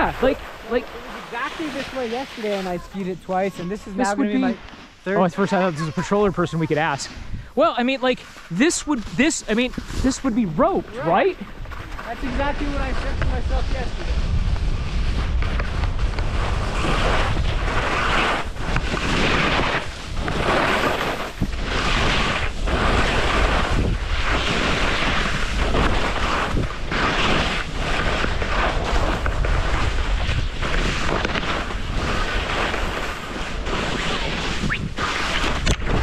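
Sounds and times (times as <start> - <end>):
wind rumbling on microphone: 0.0 - 7.6, 8.8 - 36.0
skis scraping over snow: 0.0 - 36.0.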